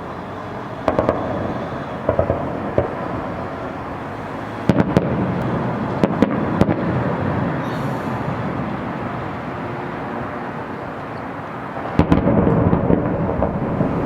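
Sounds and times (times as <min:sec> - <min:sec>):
background rumble: 0:00.0 - 0:10.8, 0:11.7 - 0:14.0
fireworks bangs: 0:00.7 - 0:10.4, 0:11.8 - 0:14.0.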